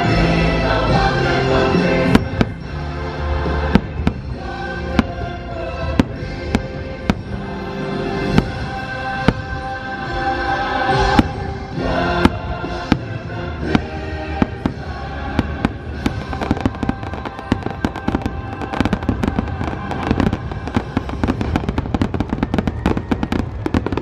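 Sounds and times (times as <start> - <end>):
fireworks bursting and crackling: 0.0 - 24.0
music playing: 0.0 - 24.0.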